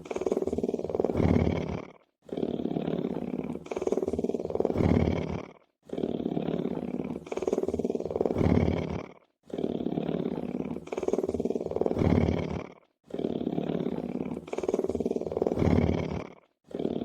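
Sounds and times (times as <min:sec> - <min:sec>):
lion purring: 0:00.0 - 0:17.0.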